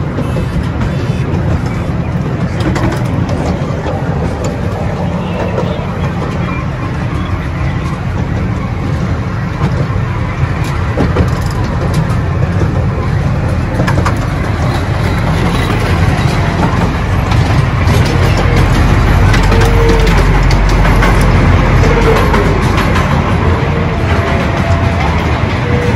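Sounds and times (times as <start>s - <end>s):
train rumbling on track: 0.0s - 25.9s.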